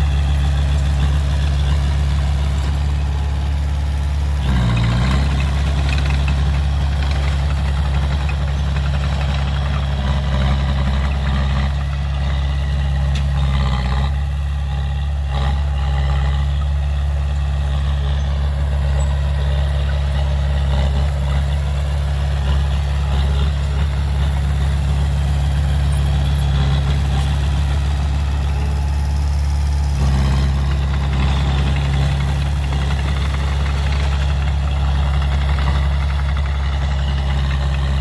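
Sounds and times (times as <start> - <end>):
heavy diesel engine idling: 0.0 - 38.0.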